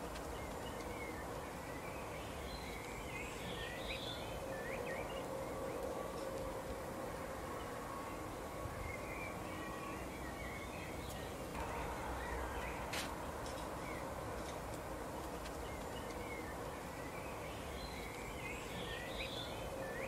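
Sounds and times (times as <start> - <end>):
songbirds twittering: 0.0 - 20.0
steady outdoor hiss: 0.0 - 20.0.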